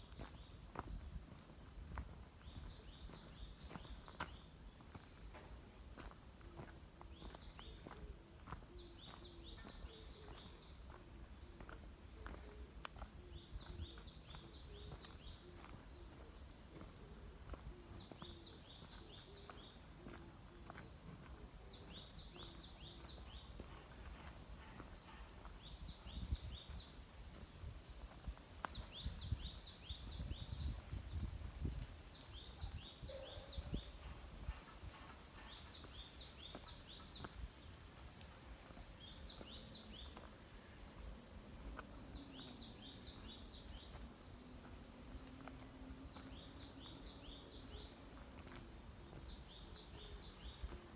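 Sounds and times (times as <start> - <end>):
footsteps on forest trail: 0.0 - 50.9
insect chorus: 0.0 - 50.9.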